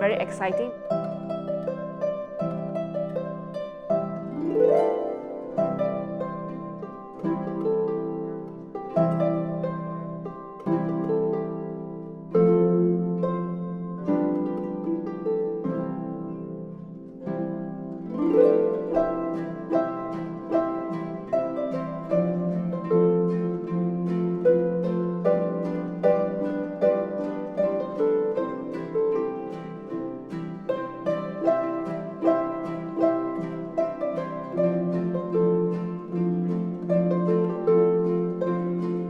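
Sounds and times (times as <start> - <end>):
harp music: 0.0 - 39.0.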